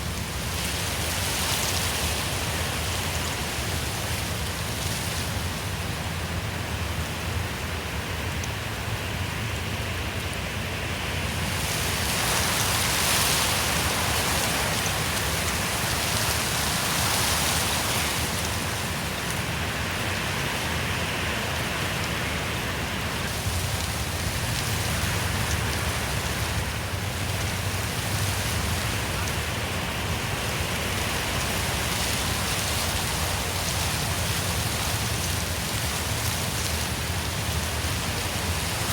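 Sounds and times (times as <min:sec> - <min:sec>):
wind through forest trees: 0:00.0 - 0:38.9.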